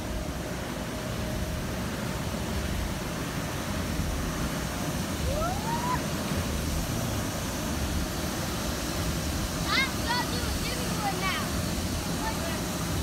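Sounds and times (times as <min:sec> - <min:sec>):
electric air blower drone: 0:00.0 - 0:13.0.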